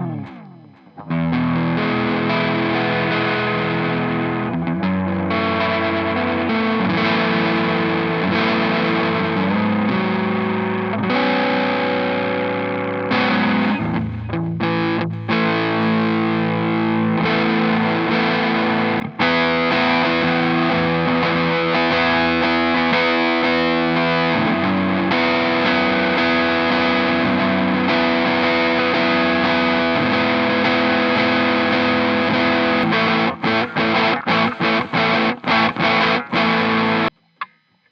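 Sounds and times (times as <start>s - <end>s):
distorted electric guitar chords: 0.0s - 37.9s.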